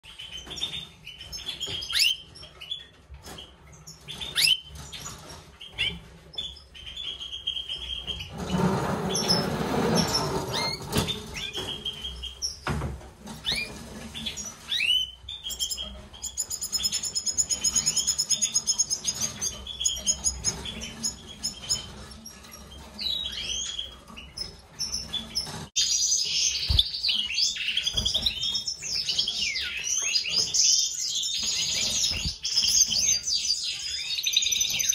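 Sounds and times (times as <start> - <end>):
finches chirping and twittering: 0.1 - 12.8, 13.4 - 34.9.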